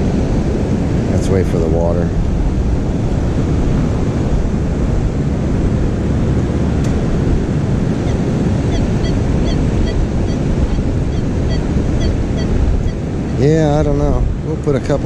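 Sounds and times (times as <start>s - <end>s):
surf washing in: 0.0s - 15.0s
wind buffeting microphone: 0.0s - 15.0s.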